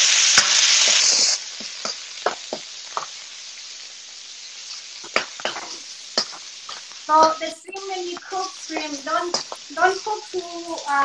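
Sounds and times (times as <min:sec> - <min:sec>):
shrimp sizzling in hot oil: 0:00.0 - 0:11.0.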